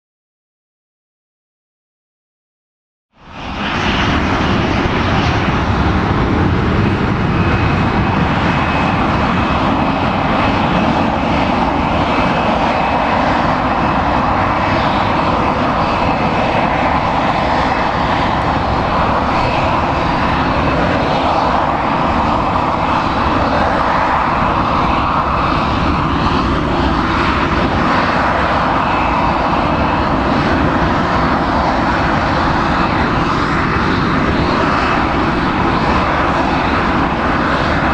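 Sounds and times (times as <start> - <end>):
jet engines running with high whine: 3.1 - 37.9.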